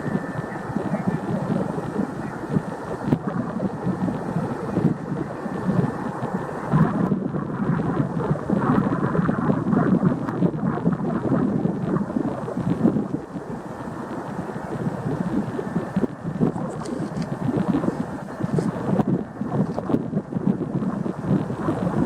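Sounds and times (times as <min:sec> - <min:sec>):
jet engine rumble: 0:00.0 - 0:22.0
wind buffeting microphone: 0:00.0 - 0:22.0.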